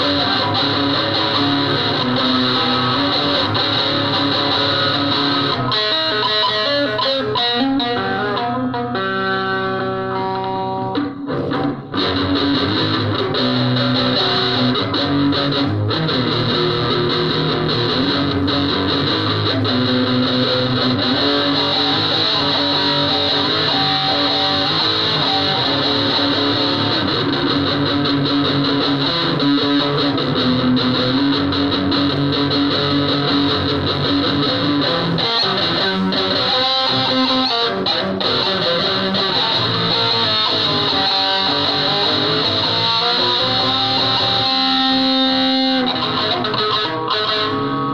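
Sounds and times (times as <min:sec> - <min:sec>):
distorted electric guitar: 0:00.0 - 0:47.9.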